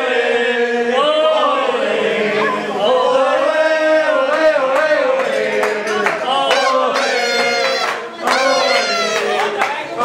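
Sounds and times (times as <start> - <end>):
group of people chanting: 0.0 - 10.0.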